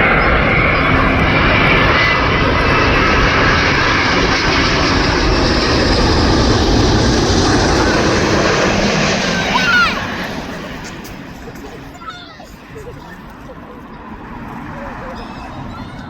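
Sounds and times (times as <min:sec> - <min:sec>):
jet airliner passing overhead: 0:00.0 - 0:16.0.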